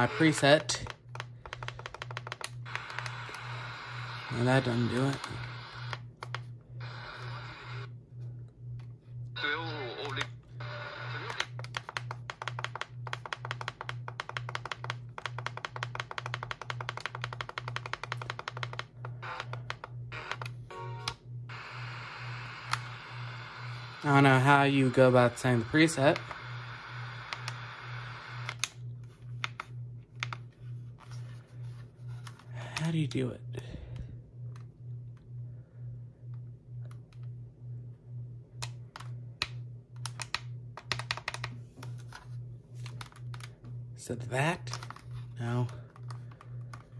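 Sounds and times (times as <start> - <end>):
pulsing low hum: 0.0 - 46.9.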